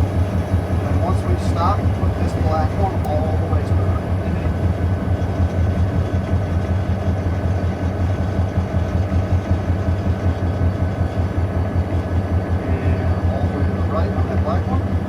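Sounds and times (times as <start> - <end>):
locomotive diesel engine drone: 0.0 - 15.0.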